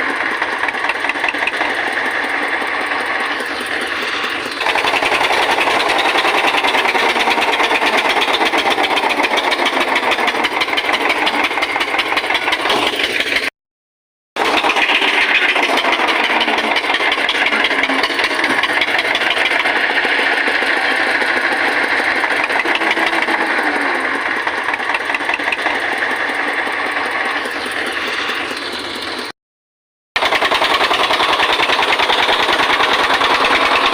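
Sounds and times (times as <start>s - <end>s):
tractor diesel engine labouring: 0.0s - 13.5s, 14.4s - 29.3s, 30.2s - 33.9s.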